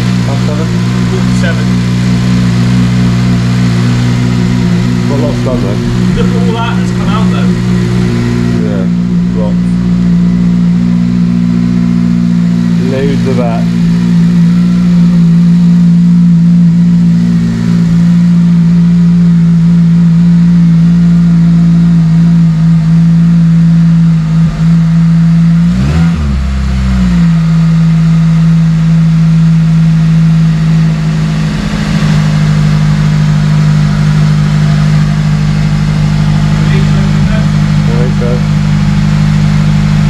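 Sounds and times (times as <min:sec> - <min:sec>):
car engine idling: 0:00.0 - 0:40.0
engine rev blip: 0:00.0 - 0:40.0.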